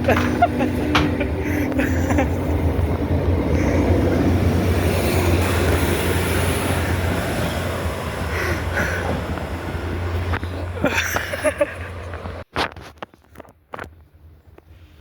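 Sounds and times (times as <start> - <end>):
diesel train engine drone: 0.0 - 12.5
train wheel and rail noise: 0.0 - 15.0.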